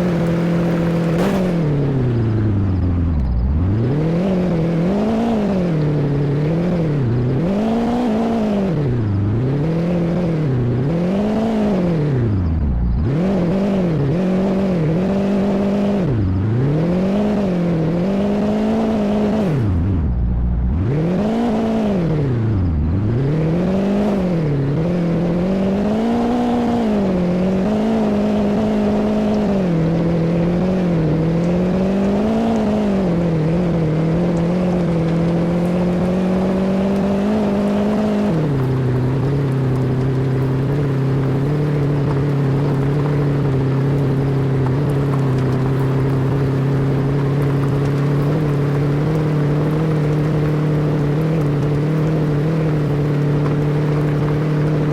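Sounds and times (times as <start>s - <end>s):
engine revving: 0.0s - 54.9s.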